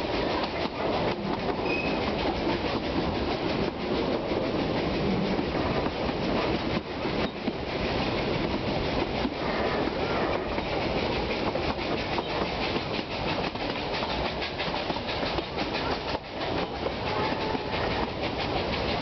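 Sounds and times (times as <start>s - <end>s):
train carriage rolling on track: 0.0s - 19.0s
wheels clicking over rail joints: 0.0s - 19.0s.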